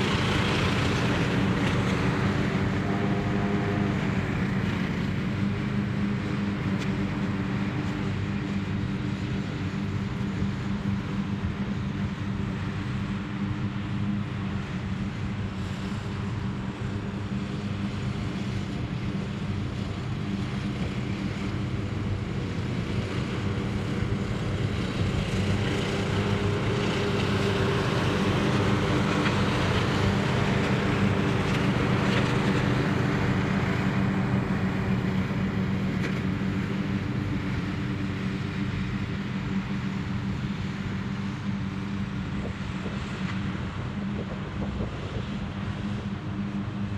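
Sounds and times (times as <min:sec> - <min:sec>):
riding lawn mower engines: 0:00.0 - 0:46.9.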